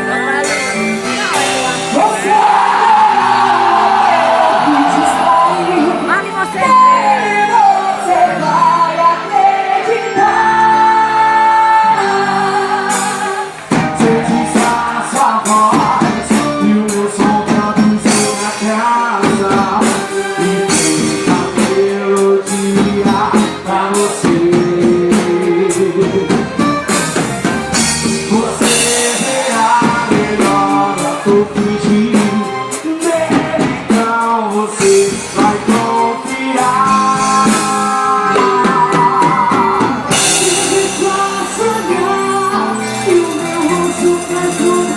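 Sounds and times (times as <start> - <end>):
drums and percussion beat: 0.0 - 6.9, 12.9 - 44.9
person singing: 0.0 - 26.9, 27.7 - 44.9.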